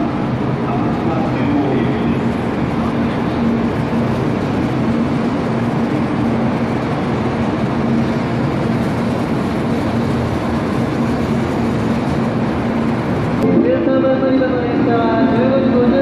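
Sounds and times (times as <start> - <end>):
constant low hum: 0.0 - 16.0
train wheel and air noise: 0.0 - 16.0.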